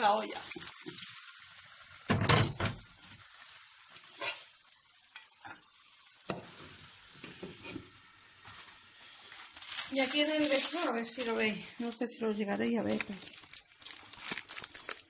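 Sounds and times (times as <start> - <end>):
filling sizzling in a frying pan: 0.0 - 15.0.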